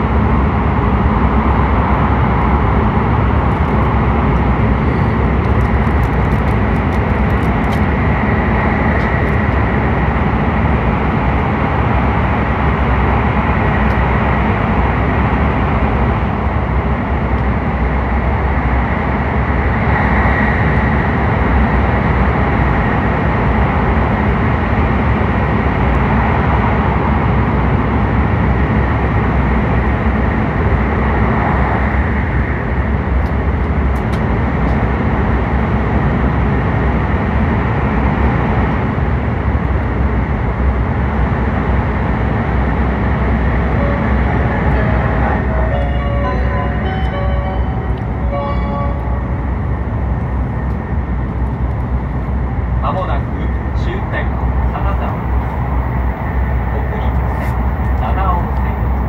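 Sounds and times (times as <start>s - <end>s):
train running noise in tunnel: 0.0s - 59.0s.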